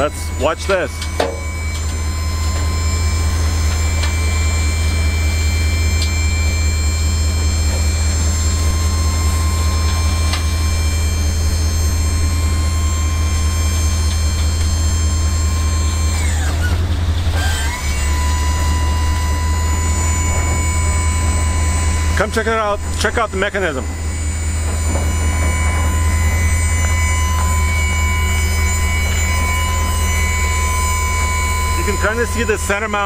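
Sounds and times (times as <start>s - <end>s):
hydraulic pump whine: 0.0s - 33.0s
truck engine idling: 0.0s - 33.0s.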